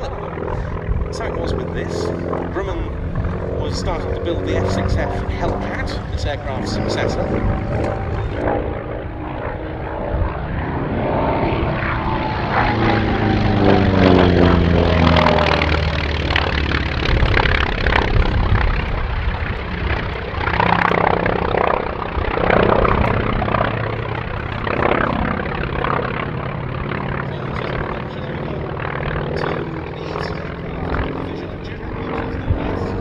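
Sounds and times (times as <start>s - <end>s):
propeller aircraft engine passing: 0.0s - 33.0s.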